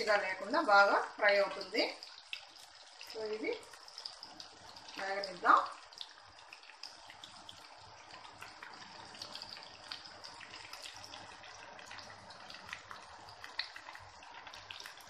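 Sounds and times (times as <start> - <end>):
chicken deep-frying in oil: 0.0 - 15.0
crackles and pops of frying: 0.0 - 15.0.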